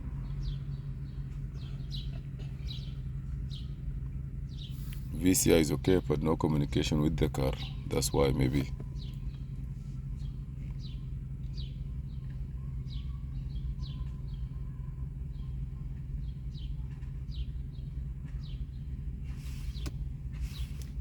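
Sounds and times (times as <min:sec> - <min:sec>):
small bird chirping: 0:00.0 - 0:05.5, 0:07.1 - 0:20.8
steady low hum: 0:00.0 - 0:21.0.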